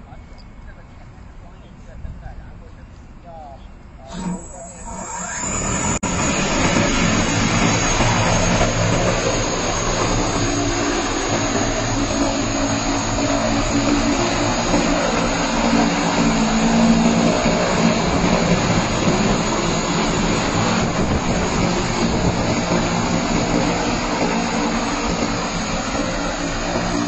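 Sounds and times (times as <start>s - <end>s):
multirotor drone buzzing: 4.1s - 27.0s.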